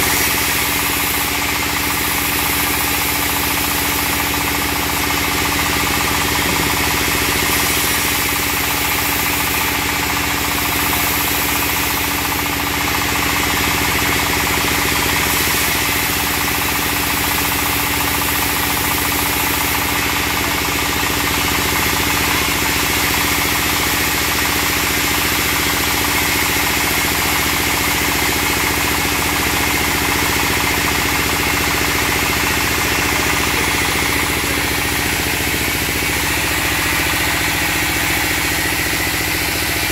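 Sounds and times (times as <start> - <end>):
band saw cutting log: 0.0 - 39.9
stationary engine running: 0.0 - 39.9.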